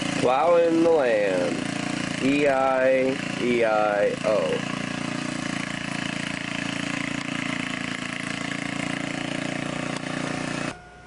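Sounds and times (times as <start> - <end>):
garden tiller engine running: 0.0 - 11.0.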